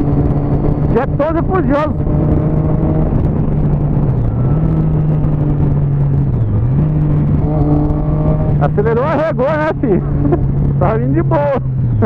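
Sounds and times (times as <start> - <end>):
motorcycle engine running: 0.0 - 12.0
wind noise: 0.0 - 12.0.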